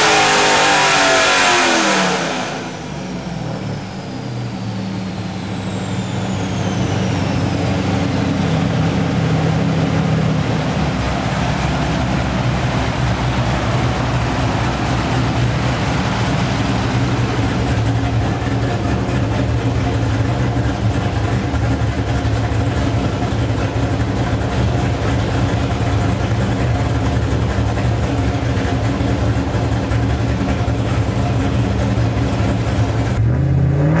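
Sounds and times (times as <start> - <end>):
car engine idling: 0.0 - 33.2
high whine: 0.0 - 33.2.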